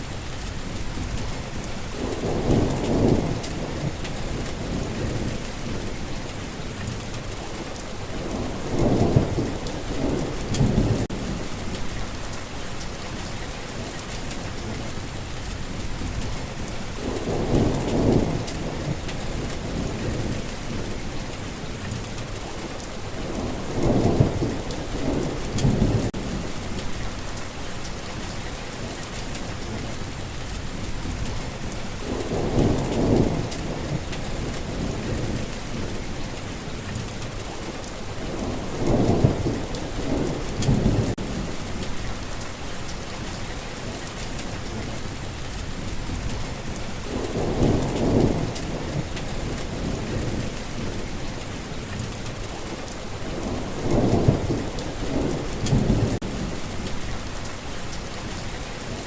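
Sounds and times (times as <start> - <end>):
steady rain falling: 0.0 - 59.0
thunder rumbling: 0.4 - 59.0.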